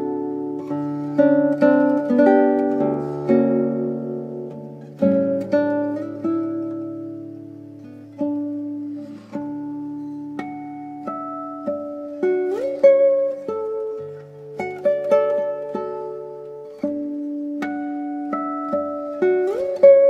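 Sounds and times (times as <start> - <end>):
slow fingerpicked classical guitar: 0.0 - 20.0.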